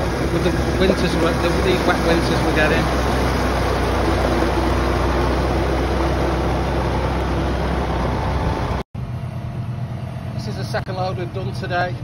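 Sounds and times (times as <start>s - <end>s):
harvester mechanical noise: 0.0s - 12.0s
tractor engine drone: 0.0s - 12.0s.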